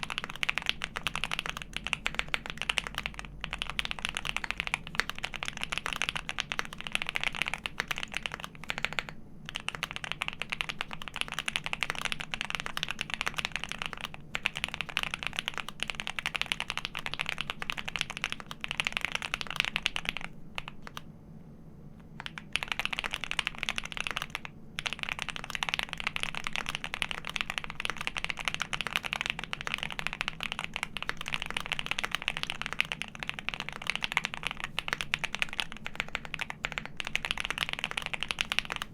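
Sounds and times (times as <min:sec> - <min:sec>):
mechanical keyboard typing: 0:00.0 - 0:21.0, 0:22.2 - 0:38.9.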